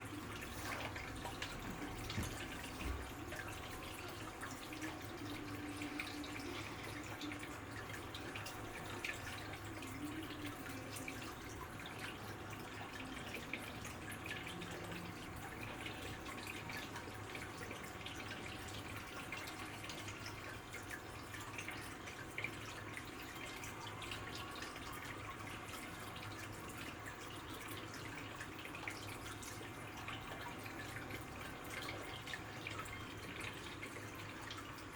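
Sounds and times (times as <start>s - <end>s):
water dripping and trickling: 0.0s - 34.9s.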